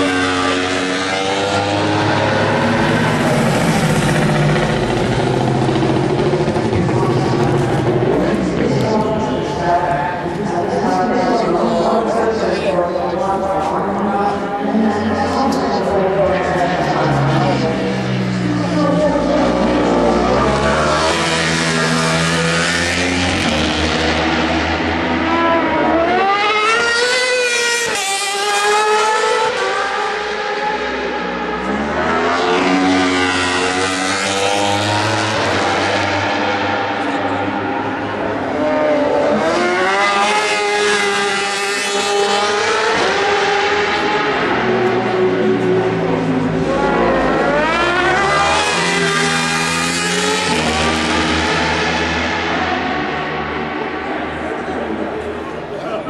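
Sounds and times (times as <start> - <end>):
racing engines at high revs: 0.0 - 56.0.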